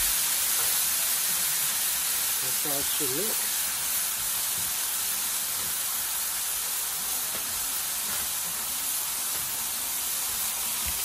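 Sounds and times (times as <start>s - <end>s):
beef patties sizzling on a griddle: 0.0s - 11.0s.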